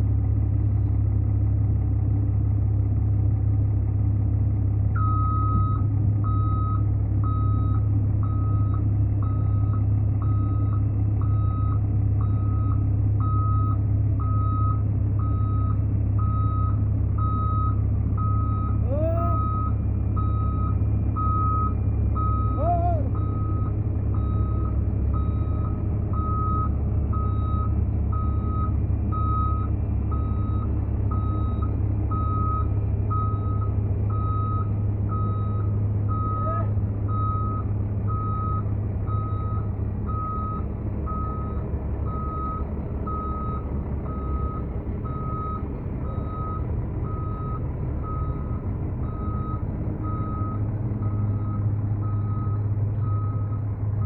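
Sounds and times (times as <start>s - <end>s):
diesel engine droning: 0.0s - 54.0s
reversing alarm beeping: 5.0s - 54.0s.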